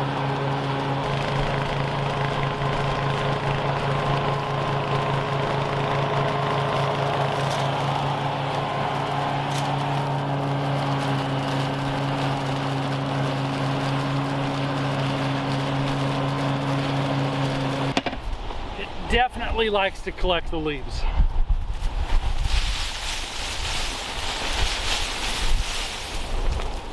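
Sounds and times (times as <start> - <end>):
lawn mower engine running: 0.0 - 19.6, 21.7 - 26.9.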